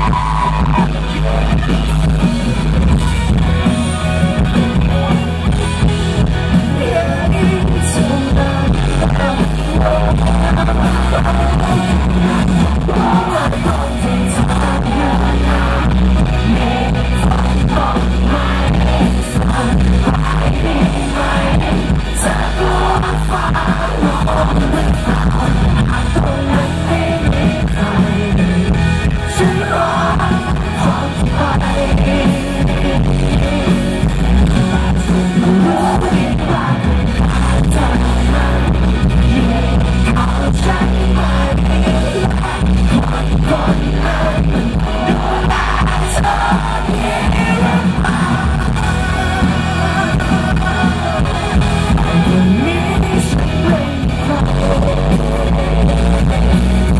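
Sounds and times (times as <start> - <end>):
live rock band playing: 0.0 - 56.9
man singing: 0.0 - 56.9.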